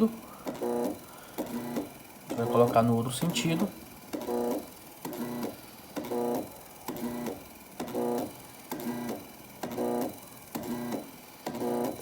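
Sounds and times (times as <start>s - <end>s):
washing machine motor humming buzz: 0.0s - 12.0s.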